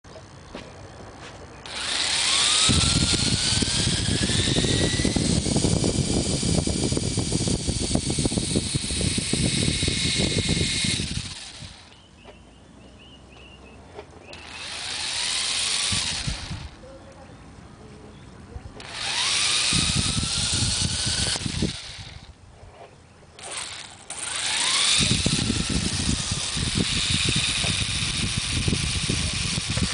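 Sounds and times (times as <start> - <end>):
electric motor whine: 0.1 - 12.0, 14.3 - 16.9, 18.8 - 22.4, 23.4 - 29.9
rotor blades chopping: 0.1 - 12.4, 14.0 - 17.2, 18.7 - 29.9.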